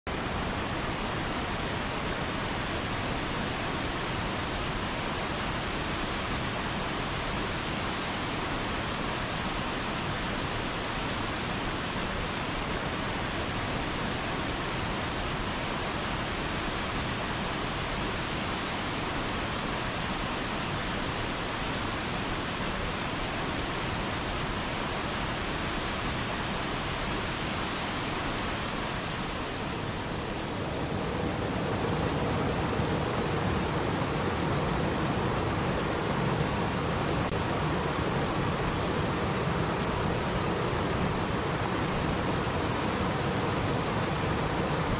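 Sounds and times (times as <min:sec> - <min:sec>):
deeper water rushing: 0:00.0 - 0:44.9
waterfall rushing: 0:00.1 - 0:44.9.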